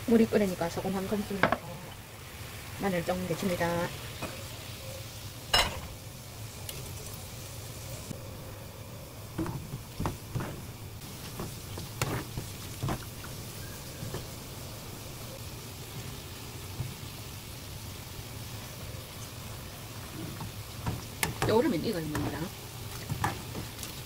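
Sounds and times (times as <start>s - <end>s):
water boiling and bubbling: 0.0s - 24.0s.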